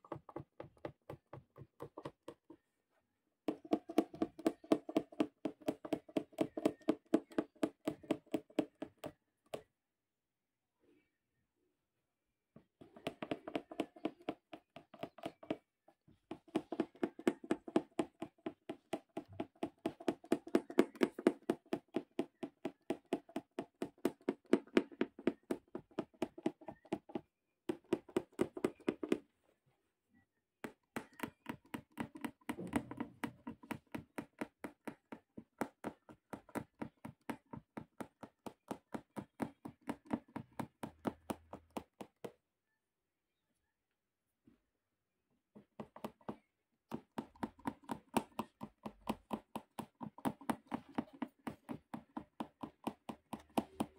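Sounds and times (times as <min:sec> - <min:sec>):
punch needle tapping through fabric: 0:00.0 - 0:02.7, 0:03.4 - 0:09.7, 0:12.8 - 0:29.2, 0:30.6 - 0:42.4, 0:45.5 - 0:53.9.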